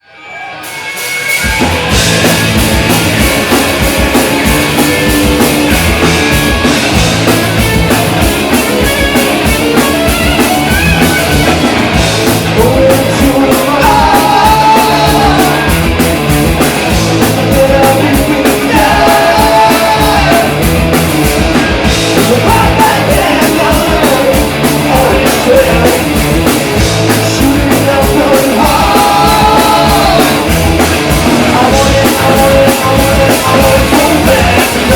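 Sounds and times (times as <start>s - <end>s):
punk rock band playing live: 0.2s - 34.9s.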